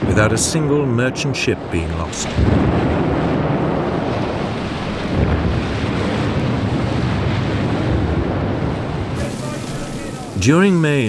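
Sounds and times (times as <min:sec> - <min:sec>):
underwater explosion rumble: 0:00.0 - 0:10.6
rushing water and spray: 0:00.0 - 0:11.0.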